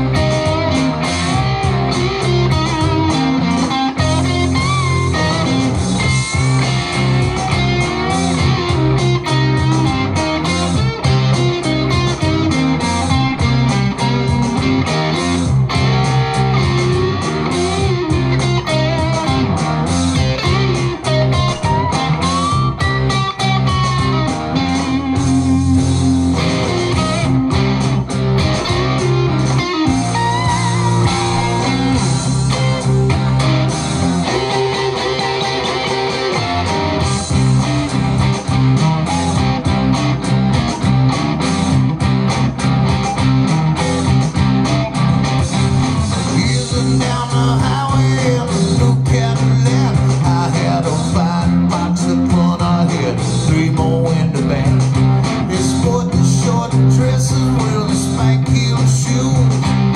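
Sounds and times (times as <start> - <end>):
rock and roll electric guitar: 0.0 - 59.9
steady beat: 0.0 - 59.9.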